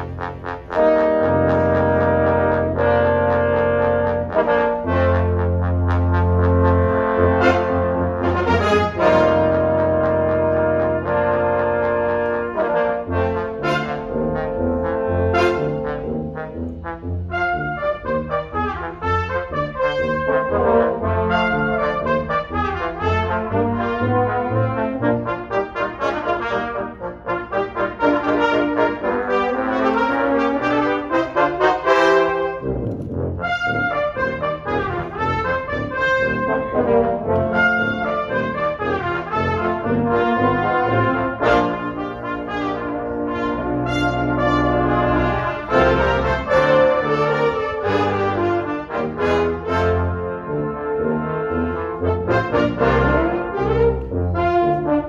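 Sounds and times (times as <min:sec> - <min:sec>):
brass ensemble playing: 0:00.0 - 0:55.0
low brass slide: 0:00.0 - 0:55.0.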